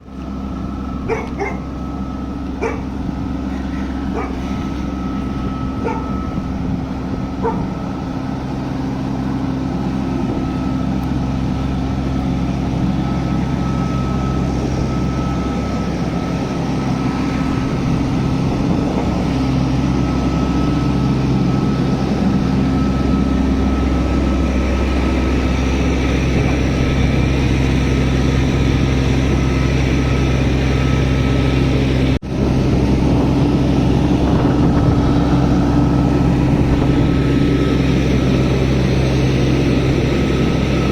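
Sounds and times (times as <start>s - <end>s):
large engine idling: 0.0s - 40.9s.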